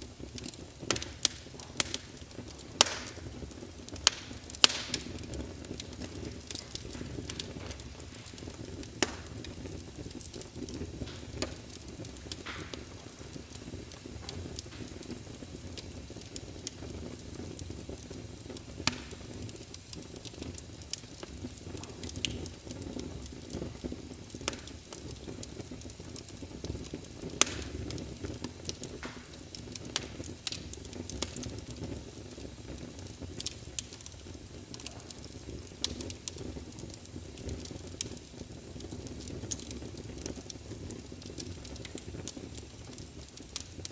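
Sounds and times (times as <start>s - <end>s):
fire crackling and popping: 0.0s - 43.9s
fire flames rumbling: 0.0s - 43.9s.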